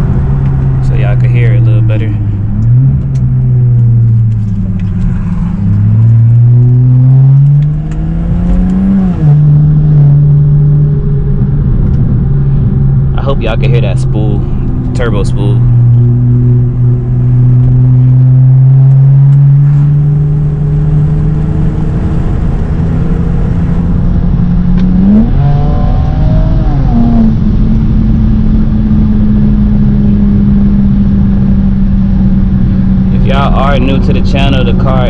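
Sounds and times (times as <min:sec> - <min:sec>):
car engine revving under load: 0:00.0 - 0:35.0.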